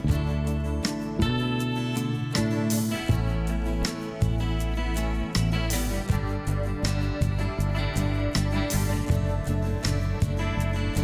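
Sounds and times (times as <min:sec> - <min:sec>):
instrumental music with bass: 0:00.0 - 0:11.0.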